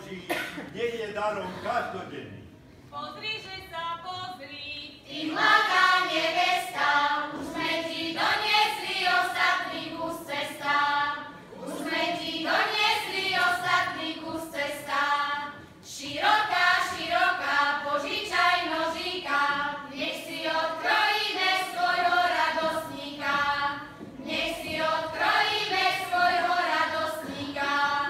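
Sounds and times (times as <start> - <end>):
female choir singing folk song: 5.0 - 28.0.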